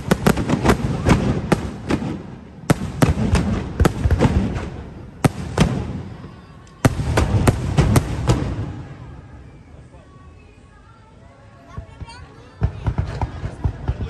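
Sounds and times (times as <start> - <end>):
fireworks bursting with sharp bangs: 0.0 - 9.8, 11.7 - 14.0.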